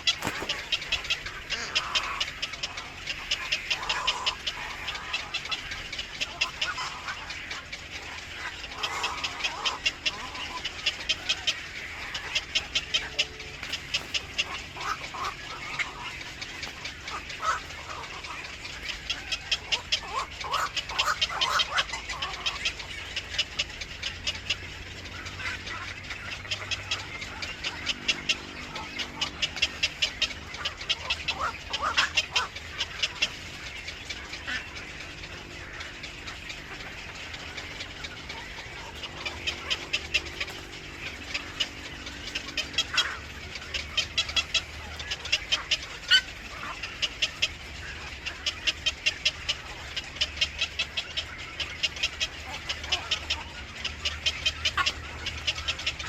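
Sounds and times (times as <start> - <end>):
birds chattering: 0.0 - 56.0
lower bird calls: 0.0 - 56.0.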